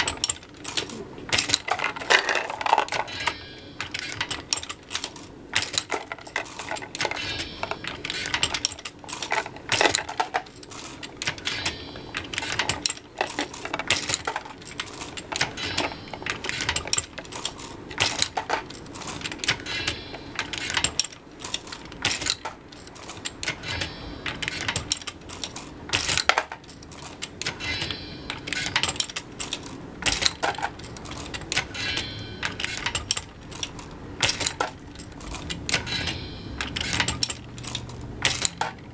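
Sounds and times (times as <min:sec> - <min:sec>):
reloading press metallic clicks: 0:00.0 - 0:38.9.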